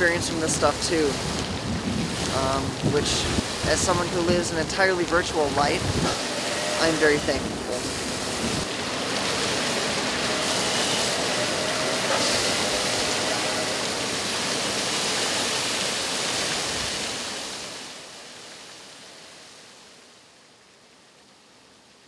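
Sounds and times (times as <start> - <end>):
fountain water splashing: 0.0 - 21.1.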